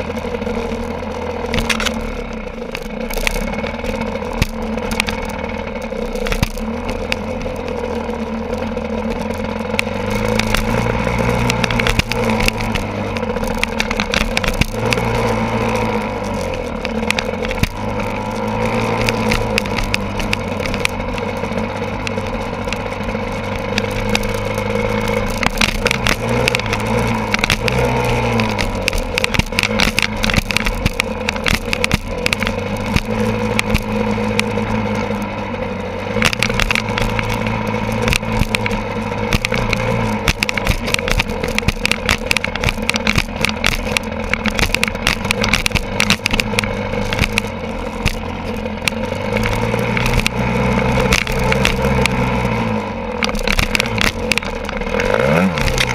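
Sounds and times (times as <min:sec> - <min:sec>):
motorcycle engine revving: 0:00.0 - 0:55.9
sharp clicks and knocks: 0:00.0 - 0:55.9.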